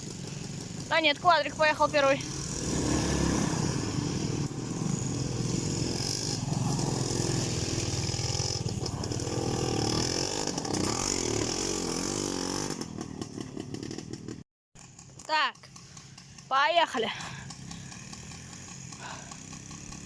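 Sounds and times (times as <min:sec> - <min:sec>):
off-road engines revving unevenly: 0:00.0 - 0:20.0.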